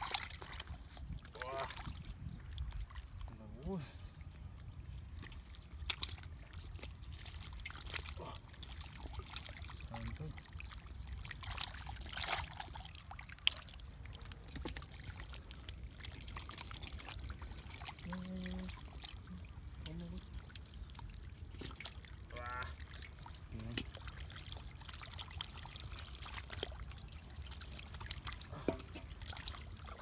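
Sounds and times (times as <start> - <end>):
hands squelching in wet mud: 0.0 - 2.1, 5.0 - 30.0
water splashing: 0.0 - 30.0.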